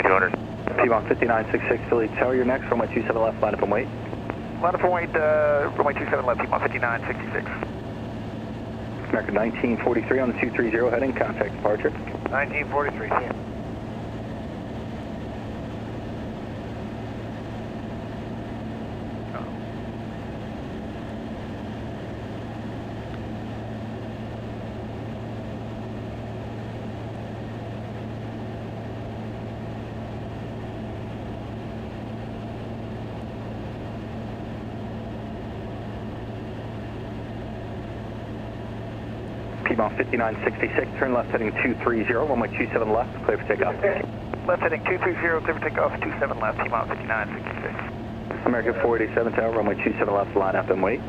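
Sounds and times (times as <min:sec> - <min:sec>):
airplane engine droning: 0:00.0 - 0:51.0
low hum: 0:00.0 - 0:51.0.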